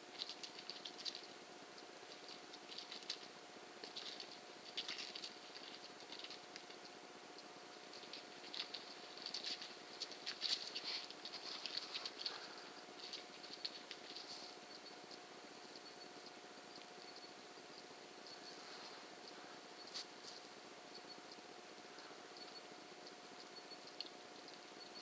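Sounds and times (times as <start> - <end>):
faint steady hum: 0.0 - 25.0
insects chirping: 0.1 - 25.0.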